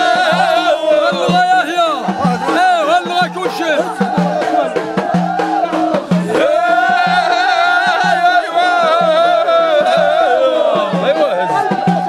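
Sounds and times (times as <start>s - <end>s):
chorus of men singing: 0.0s - 12.0s
frame drums beating: 0.0s - 12.0s.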